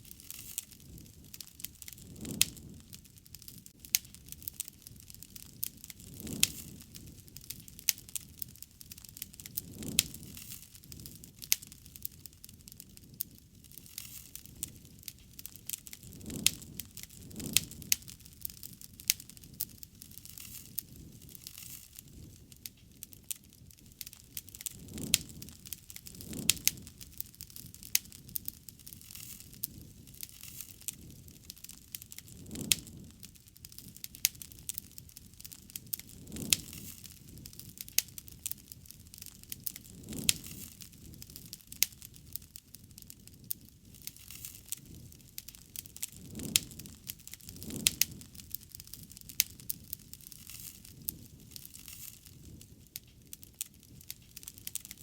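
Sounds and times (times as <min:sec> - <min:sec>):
low rush of flame: 0:00.0 - 0:55.0
wood fire crackling: 0:00.0 - 0:55.0.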